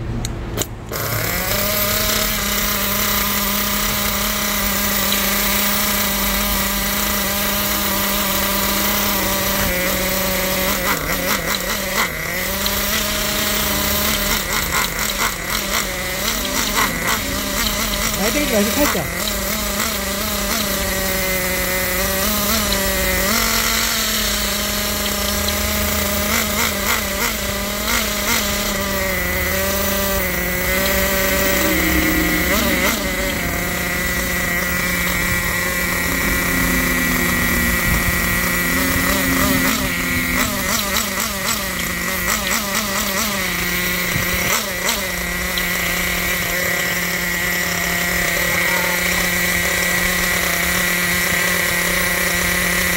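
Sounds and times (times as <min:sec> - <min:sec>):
nitro engine idling buzz: 0:00.0 - 0:52.9.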